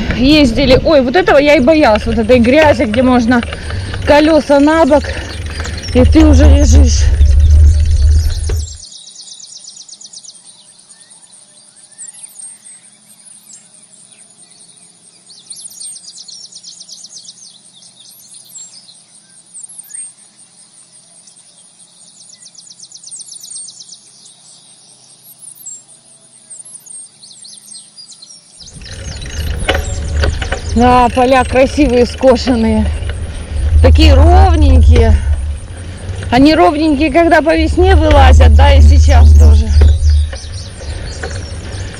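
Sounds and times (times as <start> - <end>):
insects chirring: 0.0 - 41.9
small birds chirping: 0.0 - 41.9.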